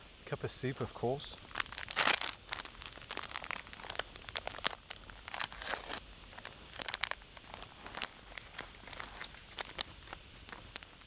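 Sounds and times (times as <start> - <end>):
campfire crackling: 0.0 - 11.0
soup packet crinkling and tearing: 1.4 - 11.0.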